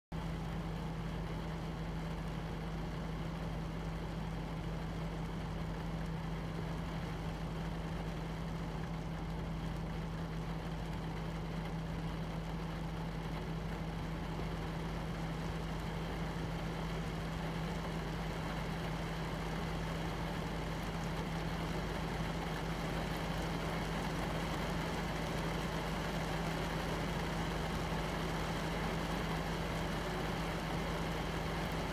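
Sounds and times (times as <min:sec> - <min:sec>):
rain on window glass: 0:00.2 - 0:31.9.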